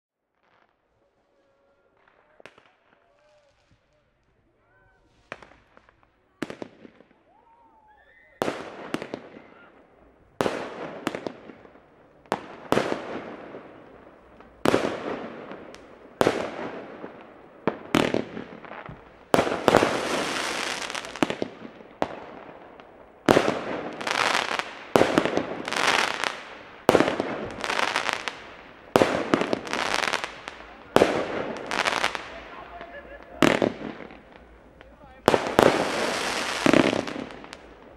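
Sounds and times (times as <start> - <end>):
fireworks crackling: 0.3 - 37.9
fireworks bangs: 0.4 - 37.9.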